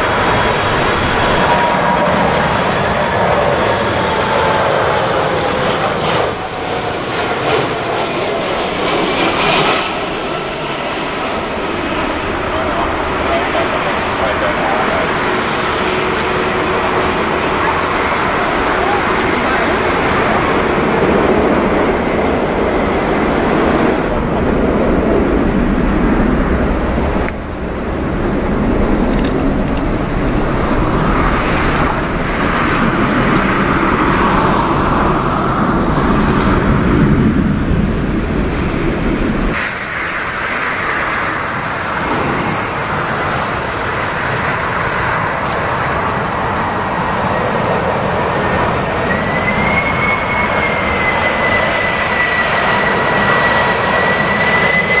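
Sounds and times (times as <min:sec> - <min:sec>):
jet airliner engines roaring: 0:00.0 - 0:55.0.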